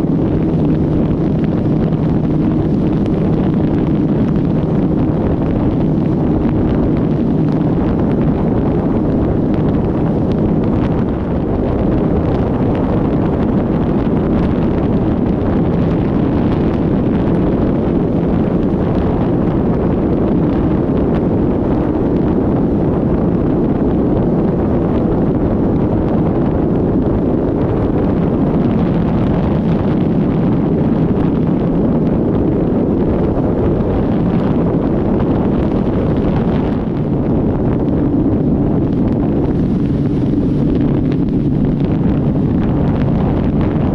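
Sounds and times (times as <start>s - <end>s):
faint motorcycle engine hum: 0.0s - 43.9s
wind rushing over microphone: 0.0s - 43.9s.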